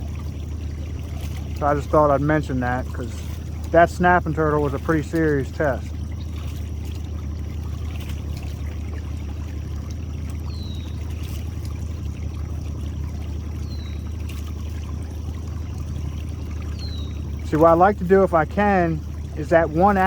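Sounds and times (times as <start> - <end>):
boat motor humming: 0.0 - 20.0
water trickling and pouring: 0.0 - 20.0.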